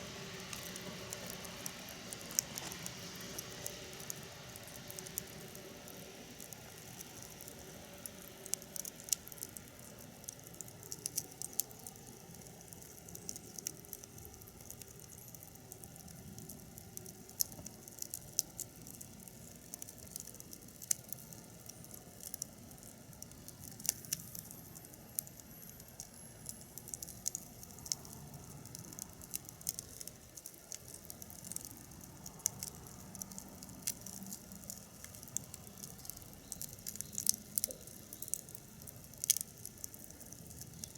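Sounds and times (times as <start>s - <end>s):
fire hissing: 0.0s - 40.9s
firewood crackling and popping: 0.0s - 40.9s.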